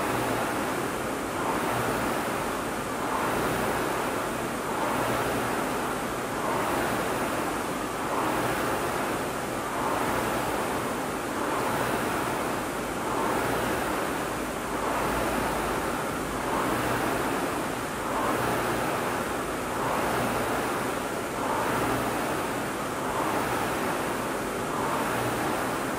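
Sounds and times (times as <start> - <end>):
rowing machine fan whooshing: 0.0 - 25.9.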